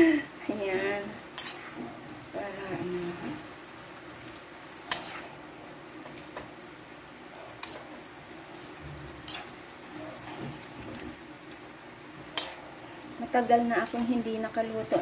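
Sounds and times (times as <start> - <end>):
food sizzling in pan: 0.0 - 15.0.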